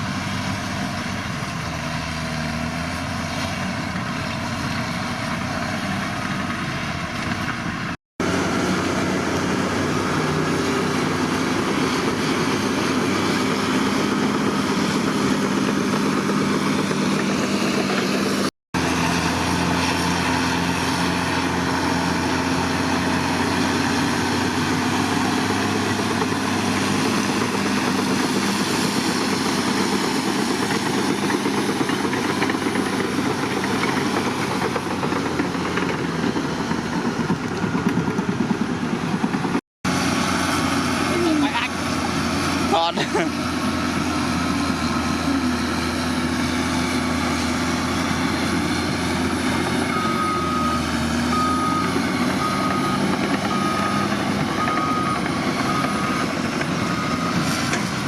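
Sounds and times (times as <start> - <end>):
diesel machine engine running: 0.0 - 58.0.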